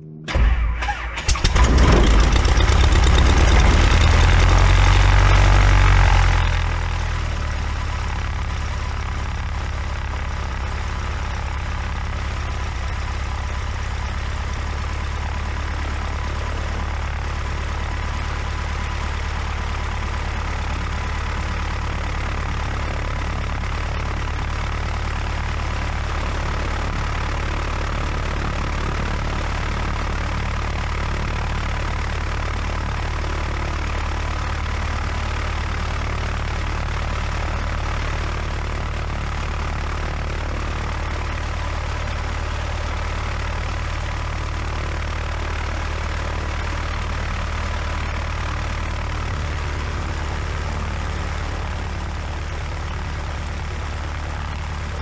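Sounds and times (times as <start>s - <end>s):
propeller plane engine running: 0.0s - 55.0s.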